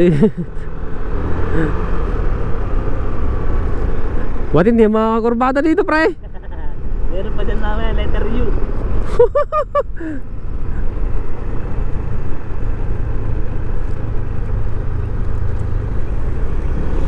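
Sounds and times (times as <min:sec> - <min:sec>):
scooter engine and road noise: 0:00.0 - 0:17.0.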